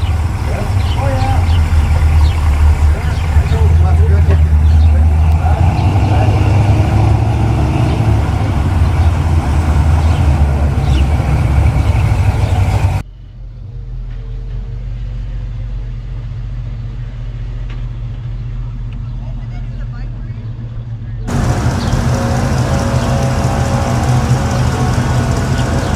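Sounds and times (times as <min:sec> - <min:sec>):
vehicle engine rumbling: 0:00.0 - 0:25.9.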